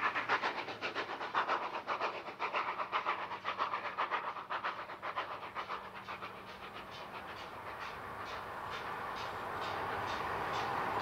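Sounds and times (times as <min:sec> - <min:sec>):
steam locomotive chuffing: 0:00.0 - 0:11.0.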